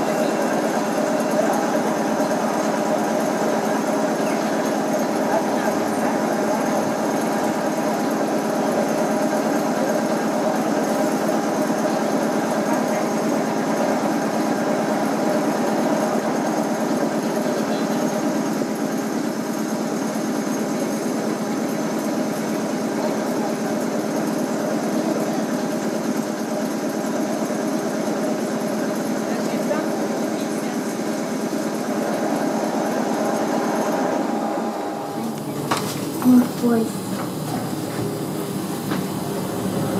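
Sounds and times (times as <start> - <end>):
electric train humming: 0.0 - 39.9.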